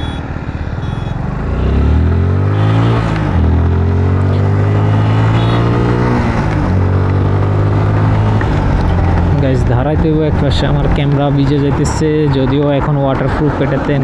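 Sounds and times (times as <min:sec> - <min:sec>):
motorcycle engine accelerating: 0:00.0 - 0:11.2.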